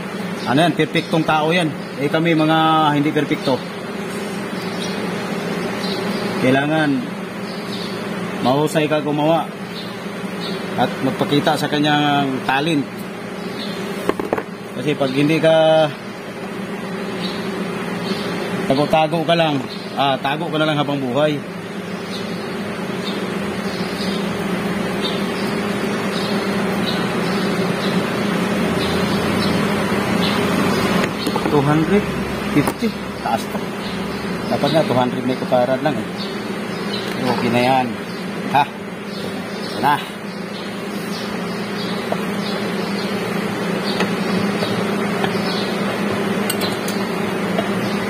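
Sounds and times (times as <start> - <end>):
mechanical hum: 0.0 - 48.0.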